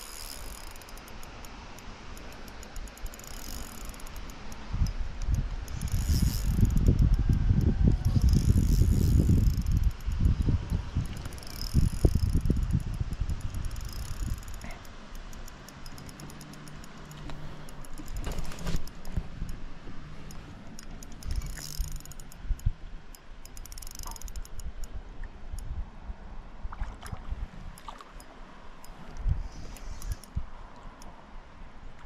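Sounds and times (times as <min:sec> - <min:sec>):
fishing reel ticking: 0:00.0 - 0:19.6, 0:20.2 - 0:25.0, 0:27.8 - 0:31.1.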